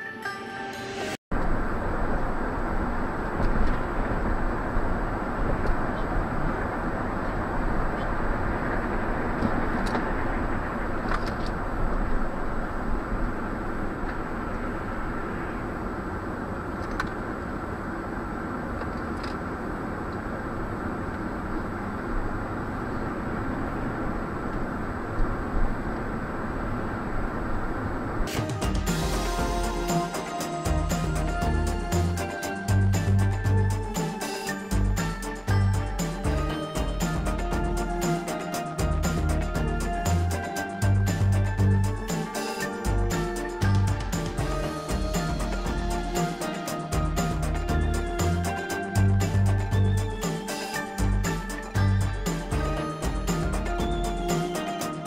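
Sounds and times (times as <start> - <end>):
road and tyre noise: 1.1 - 55.0
car engine: 1.3 - 55.0.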